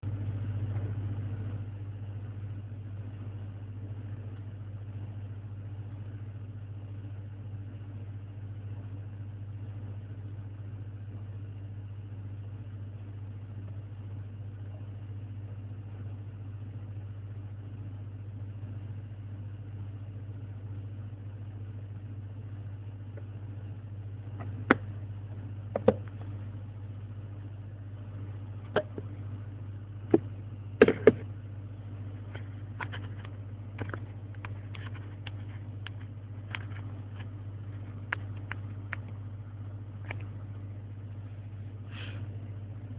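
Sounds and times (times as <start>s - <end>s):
low hum with faint hiss: 0.0s - 42.9s.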